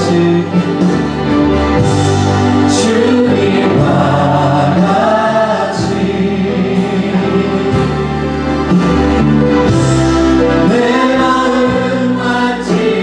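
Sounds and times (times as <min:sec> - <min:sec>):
choir singing: 0:00.0 - 0:13.0
instrumental accompaniment: 0:00.0 - 0:13.0.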